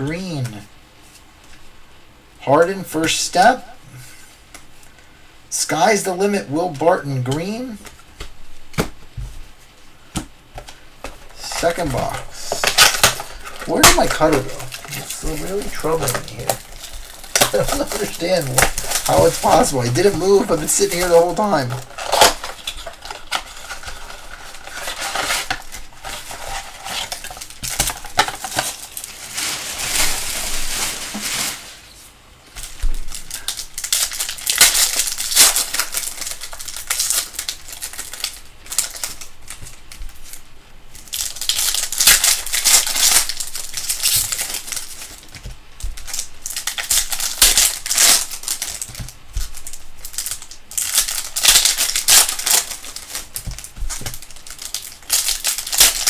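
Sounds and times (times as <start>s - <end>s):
plastic wrapping crinkling and tearing: 10.6s - 56.0s.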